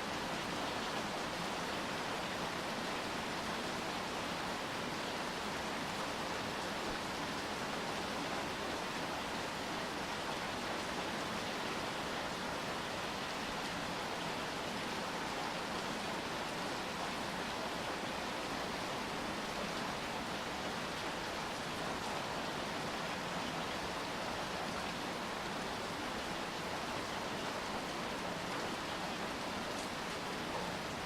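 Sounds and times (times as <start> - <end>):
steady rainfall hiss: 0.0 - 31.0.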